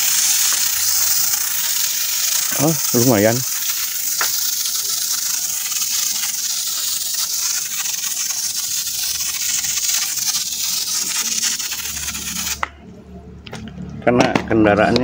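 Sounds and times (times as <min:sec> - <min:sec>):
foam sprayer hissing: 0:00.0 - 0:12.7.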